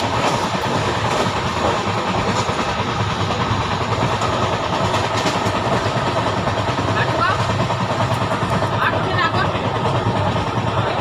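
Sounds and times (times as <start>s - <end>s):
train coach running noise: 0.0s - 11.0s.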